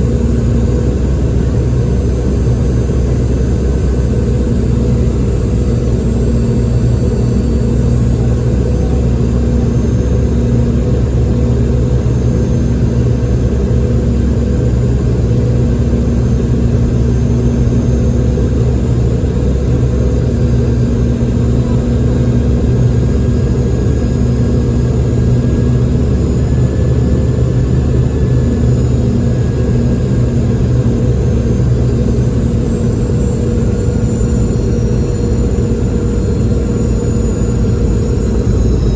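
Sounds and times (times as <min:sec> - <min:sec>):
jet engine drone in cabin: 0:00.0 - 0:38.9.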